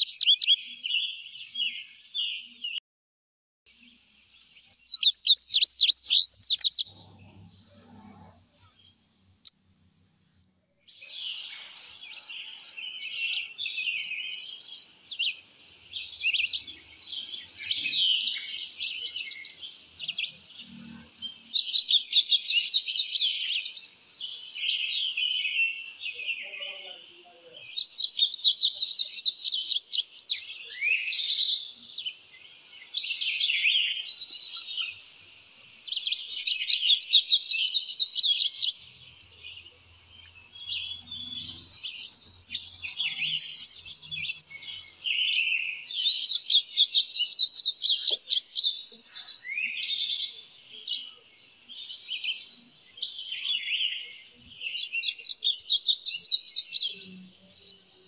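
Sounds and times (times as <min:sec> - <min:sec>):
songbird singing rapid notes: 0:00.0 - 0:02.8, 0:03.7 - 0:58.0.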